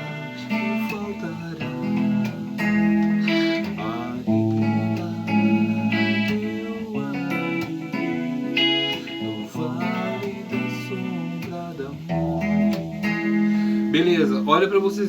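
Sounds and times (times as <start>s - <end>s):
clean electric guitar playing: 0.0s - 15.0s.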